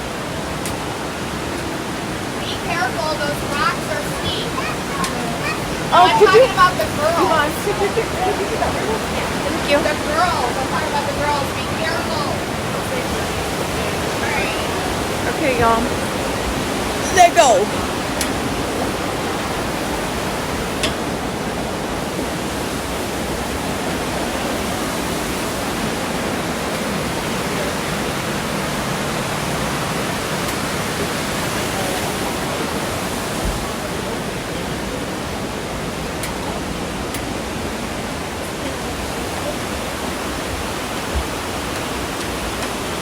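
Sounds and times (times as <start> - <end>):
creek water rushing over rocks: 0.0 - 43.0.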